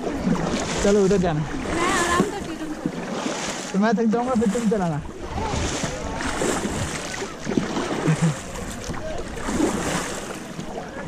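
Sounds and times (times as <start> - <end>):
kayak paddle splashing: 0.0 - 11.0.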